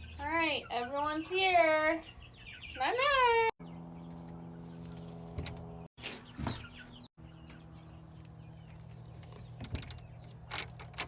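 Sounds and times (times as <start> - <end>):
chicks peeping: 0.0 - 10.7
low electrical hum: 0.0 - 11.0.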